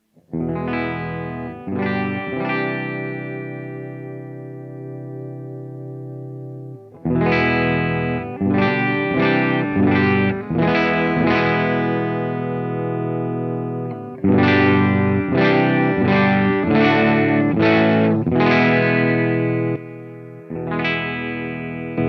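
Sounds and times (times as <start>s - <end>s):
overdriven electric guitar chords: 0.0s - 22.0s.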